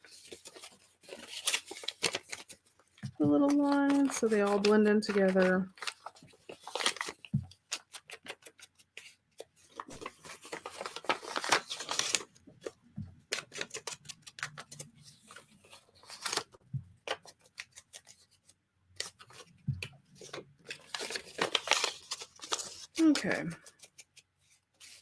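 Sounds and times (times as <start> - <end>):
paper rustling: 0.0 - 25.0.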